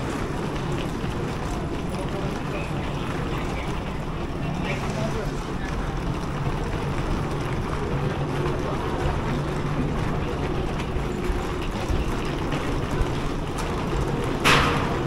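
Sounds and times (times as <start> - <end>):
footsteps of a crowd: 0.0 - 15.0
rolling suitcase wheels: 0.0 - 15.0.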